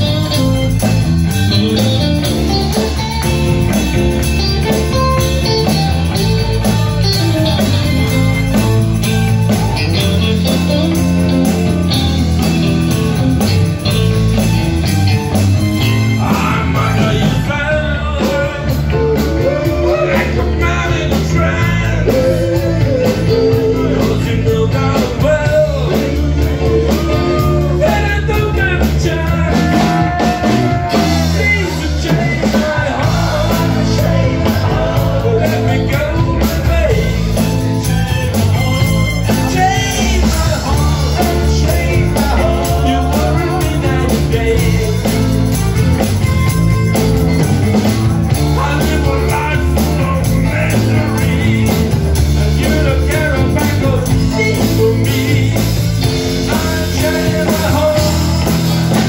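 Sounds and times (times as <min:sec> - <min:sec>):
rock band playing blues-rock: 0:00.0 - 0:59.0
sliding lead melody: 0:00.0 - 0:59.0.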